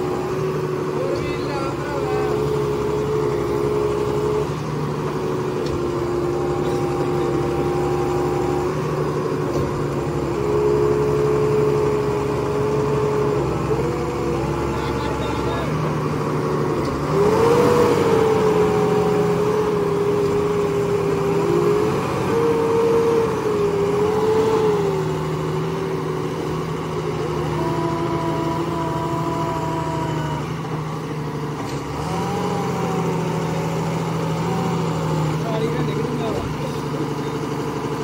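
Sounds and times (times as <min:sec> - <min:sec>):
tractor and baler droning: 0:00.0 - 0:38.0.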